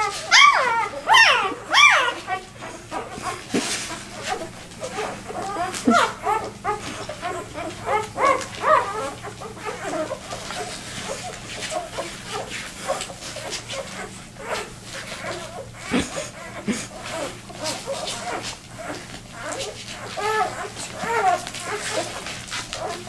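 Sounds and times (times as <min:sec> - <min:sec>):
puppies squeaking and whimpering: 0:00.0 - 0:23.0.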